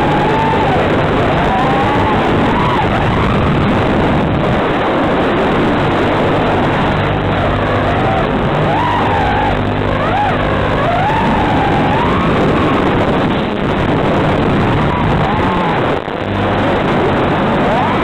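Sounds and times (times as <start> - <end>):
faint drone motor whine: 0.0 - 18.0.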